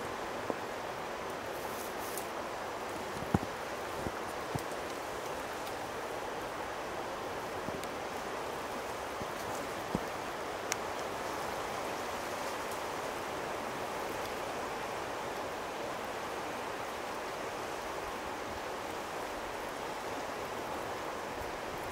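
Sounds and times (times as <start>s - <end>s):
stream flowing: 0.0s - 21.9s.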